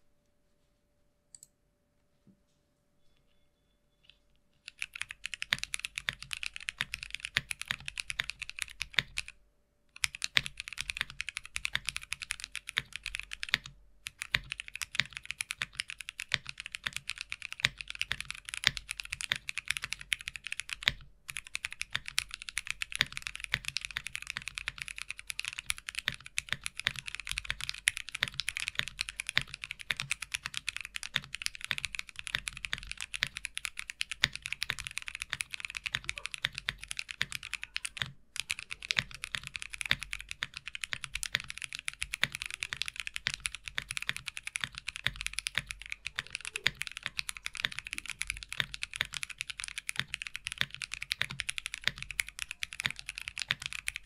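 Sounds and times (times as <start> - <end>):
mechanical keyboard typing: 4.6 - 9.3, 10.0 - 54.0.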